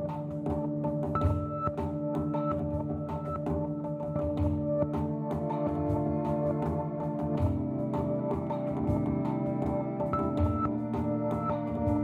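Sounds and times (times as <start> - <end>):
held instrumental notes: 0.0 - 12.0
steady percussive beat: 0.0 - 12.0.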